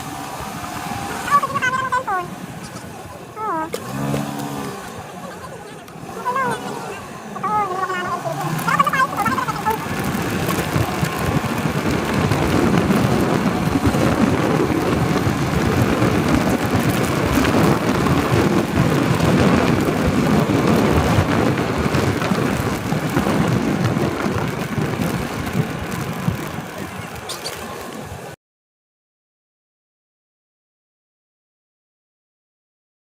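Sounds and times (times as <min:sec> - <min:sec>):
motorcycle engine: 0:00.0 - 0:28.4
road noise: 0:00.0 - 0:28.4
wind rushing over microphone: 0:00.0 - 0:28.4.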